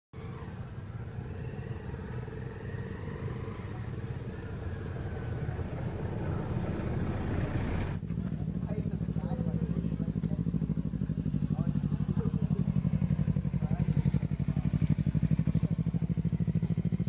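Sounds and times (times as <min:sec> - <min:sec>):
low engine rumble: 0:00.2 - 0:17.0.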